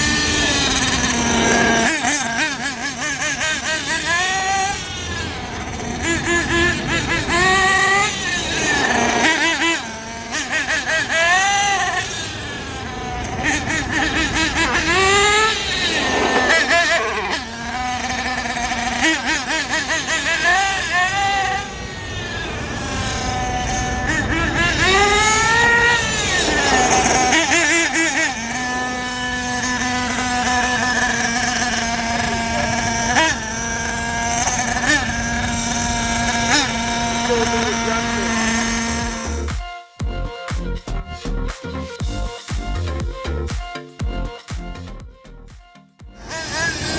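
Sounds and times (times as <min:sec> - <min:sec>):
electric rc car motor whining: 0:00.0 - 0:43.4, 0:46.1 - 0:46.9.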